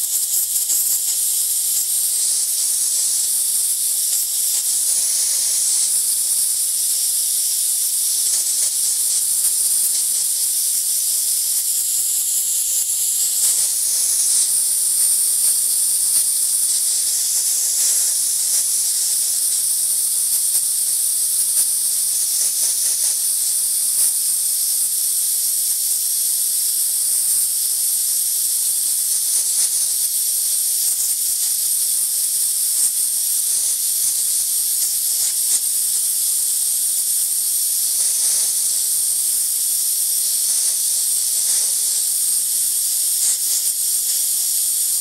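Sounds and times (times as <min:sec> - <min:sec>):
air blow gun hissing: 0:00.0 - 0:25.6, 0:26.4 - 0:45.0.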